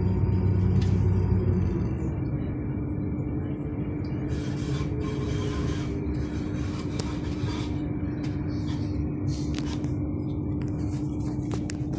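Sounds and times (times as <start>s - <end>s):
constant hum: 0.0s - 11.9s
tram rumble: 0.0s - 11.9s.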